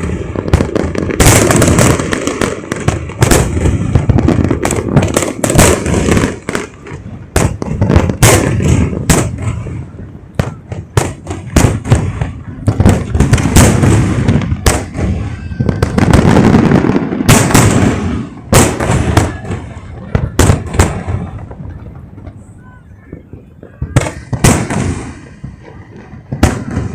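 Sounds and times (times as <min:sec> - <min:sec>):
fireworks bangs: 0:00.0 - 0:26.9
fireworks crackling: 0:00.0 - 0:26.9.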